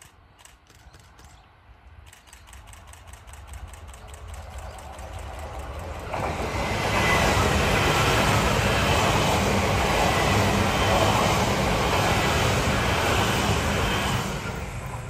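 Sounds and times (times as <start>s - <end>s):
train passing at speed: 0.0s - 15.0s
wheels on rail: 0.0s - 15.0s.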